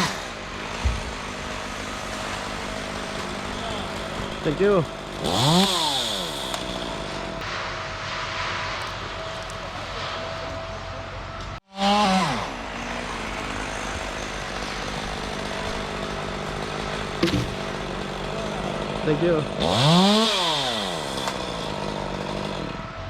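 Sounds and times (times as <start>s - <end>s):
chainsaw engine revving and idling: 0.0s - 7.4s, 11.7s - 23.0s.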